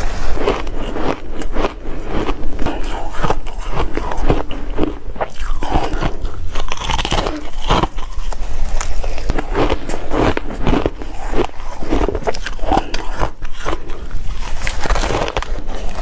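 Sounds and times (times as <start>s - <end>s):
ice being crunched by chewing: 0.0s - 16.0s.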